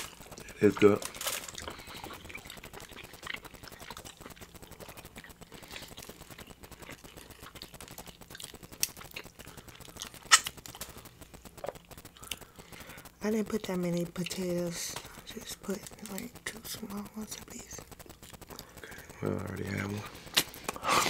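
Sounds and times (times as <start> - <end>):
wet chewing sounds: 0.0 - 21.0.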